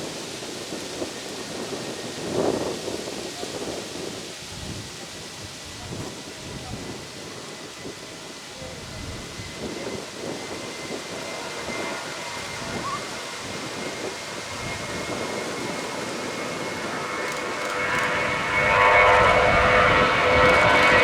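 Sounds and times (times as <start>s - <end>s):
jet aircraft rumble: 0.0s - 21.0s.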